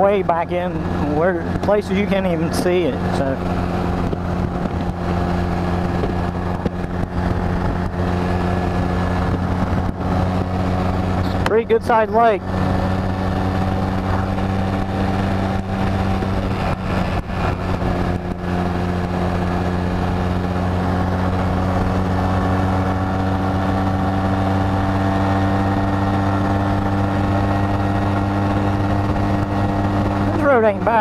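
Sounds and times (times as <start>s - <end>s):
engine crackles: 0.0s - 31.0s
motorcycle engine cruising: 0.0s - 31.0s
wind and road noise: 0.0s - 31.0s.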